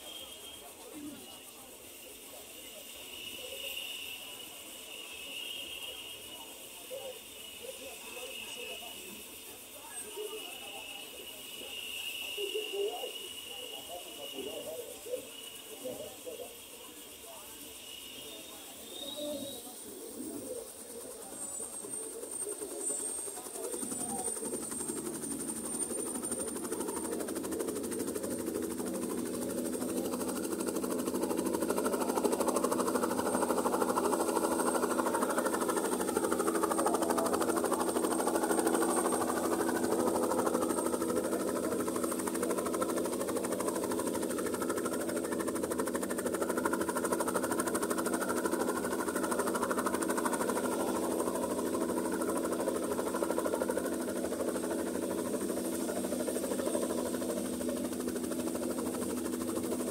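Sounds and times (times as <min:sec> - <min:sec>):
helicopter engine and rotor chop: 0:00.0 - 0:59.9.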